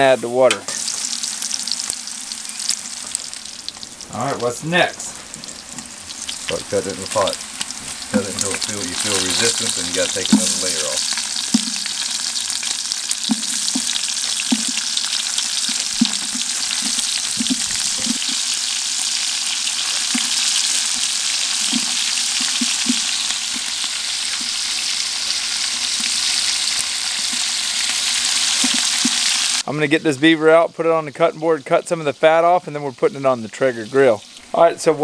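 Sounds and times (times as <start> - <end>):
fat sizzling in a pot: 0.0 - 35.0.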